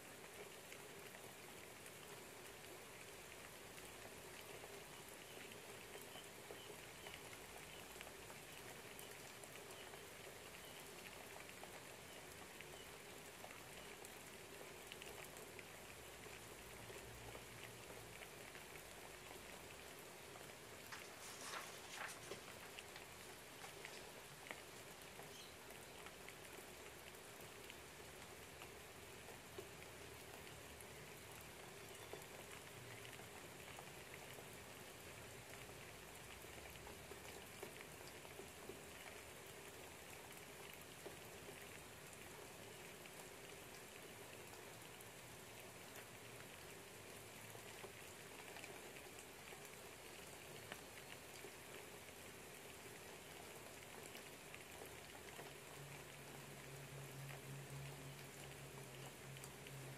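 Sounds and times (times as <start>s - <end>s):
light rain pattering: 0.0s - 59.9s
small drips: 0.0s - 59.9s.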